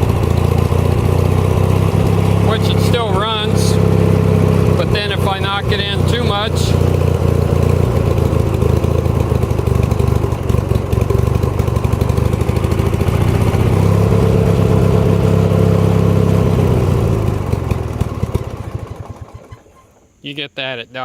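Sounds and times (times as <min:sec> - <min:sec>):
mower engine running unevenly: 0:00.0 - 0:20.1.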